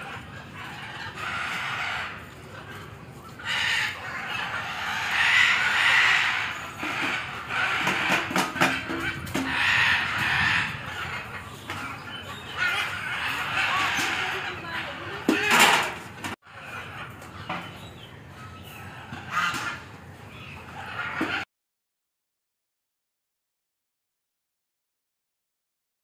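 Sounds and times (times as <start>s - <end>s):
fowl clucking: 0.0s - 21.5s.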